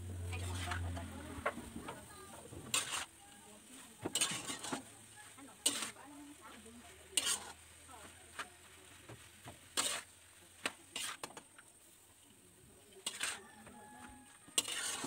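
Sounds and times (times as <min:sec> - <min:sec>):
metal spatula scraping a wok: 0:00.1 - 0:15.0.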